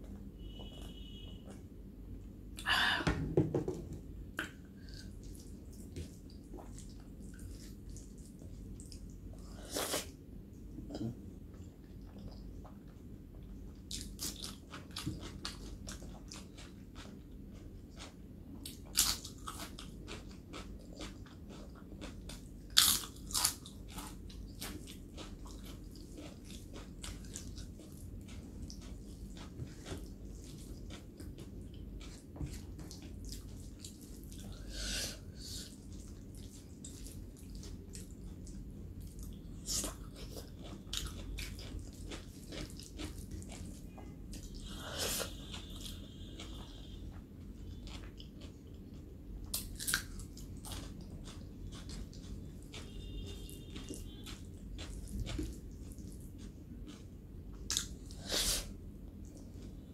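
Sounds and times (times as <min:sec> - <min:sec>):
person crunching and chewing food: 0:04.4 - 0:10.2, 0:11.6 - 0:59.9.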